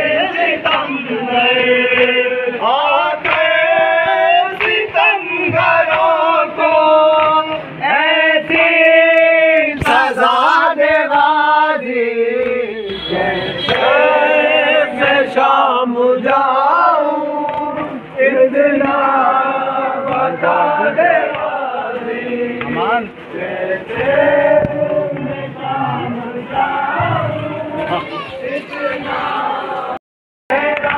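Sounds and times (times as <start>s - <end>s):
men chanting in unison: 0.0s - 30.9s.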